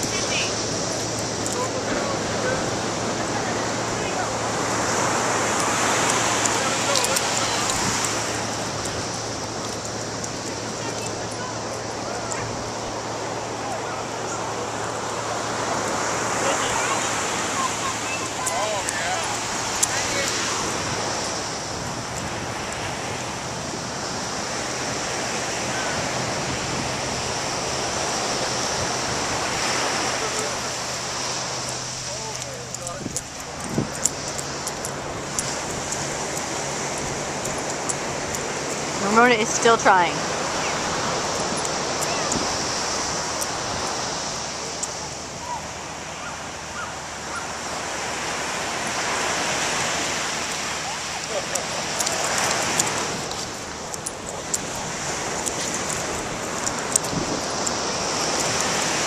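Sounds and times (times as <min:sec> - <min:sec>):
ocean surf breaking on sand: 0:00.0 - 0:59.0.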